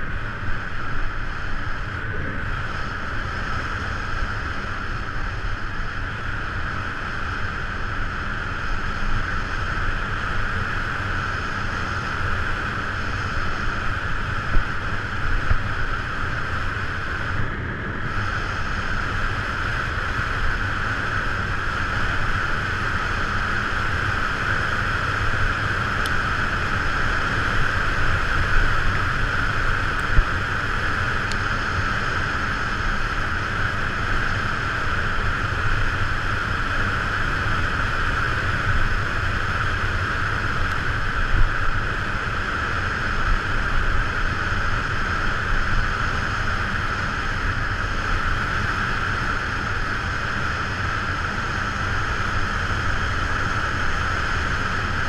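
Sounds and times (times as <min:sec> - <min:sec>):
wind on microphone: 0:00.0 - 0:55.0
strong hiss: 0:10.1 - 0:55.0.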